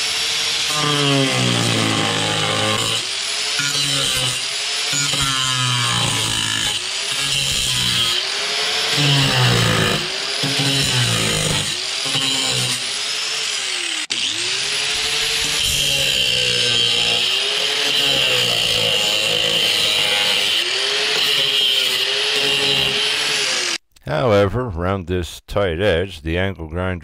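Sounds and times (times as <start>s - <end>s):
angle grinder cutting sheet steel: 0.0s - 23.8s.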